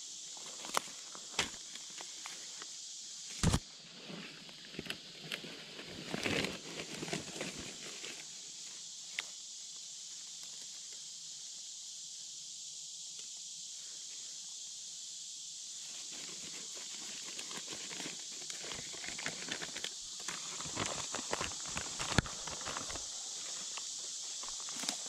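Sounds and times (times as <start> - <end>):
high-pitched hiss: 0.0 - 25.0.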